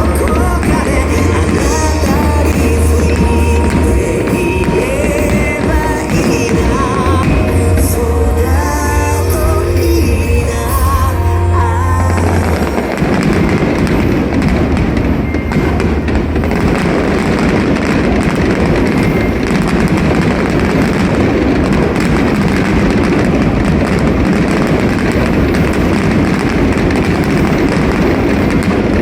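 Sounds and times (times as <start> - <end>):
fireworks barrage: 0.0 - 29.0.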